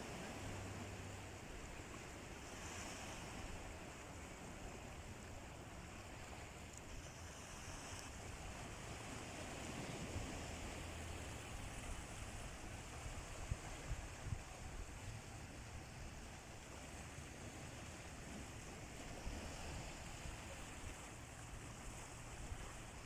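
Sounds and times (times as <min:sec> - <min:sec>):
sea surf washing onto shore: 0:00.0 - 0:23.0.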